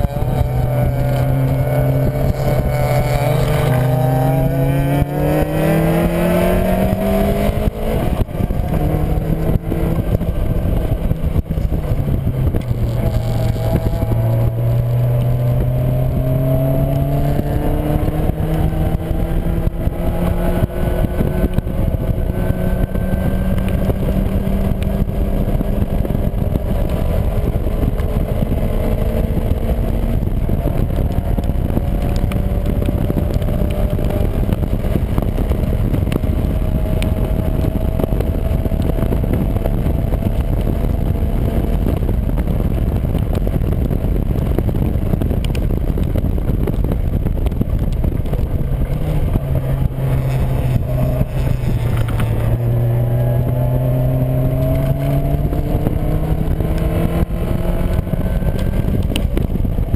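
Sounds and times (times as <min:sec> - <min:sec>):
car engine accelerating: 0:00.0 - 0:59.9
wind and road noise: 0:00.0 - 0:59.9.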